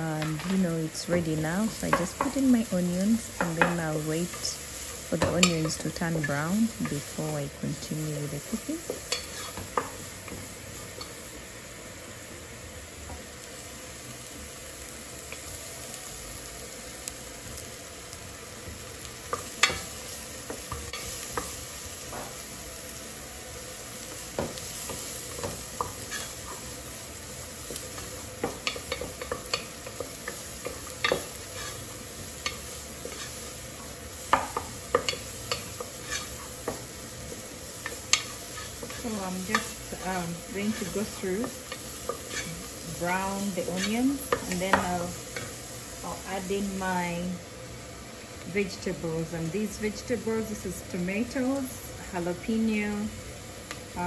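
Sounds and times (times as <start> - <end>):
onions sizzling in hot oil: 0.0 - 54.0.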